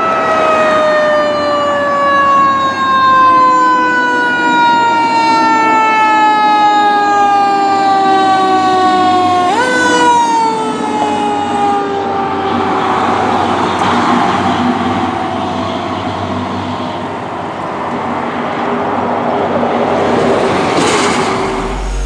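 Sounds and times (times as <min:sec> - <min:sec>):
fire engine siren wailing: 0:00.0 - 0:22.0.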